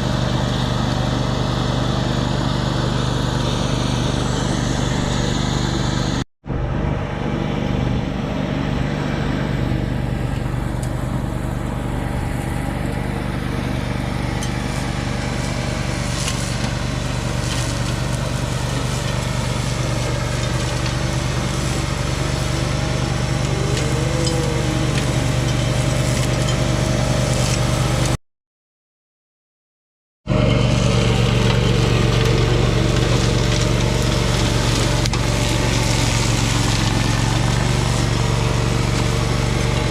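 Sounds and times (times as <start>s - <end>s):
tractor engine running: 0.0s - 28.2s, 30.3s - 39.9s.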